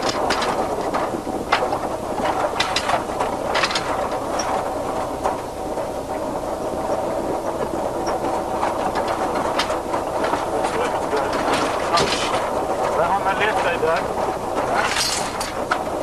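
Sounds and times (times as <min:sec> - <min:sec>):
truck engine and road drone: 0:00.0 - 0:16.0
vehicle clattering and rattling: 0:00.0 - 0:16.0.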